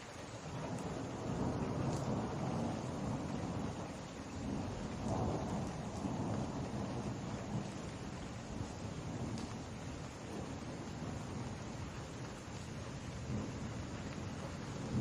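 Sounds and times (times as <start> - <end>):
heavy rain falling: 0.0 - 15.0
distant thunder rumbling: 0.5 - 15.0.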